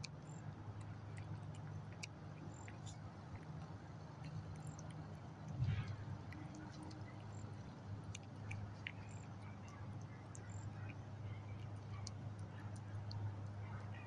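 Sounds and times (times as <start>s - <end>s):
cat chewing and licking: 0.0s - 14.0s
steady low hum: 0.0s - 14.0s.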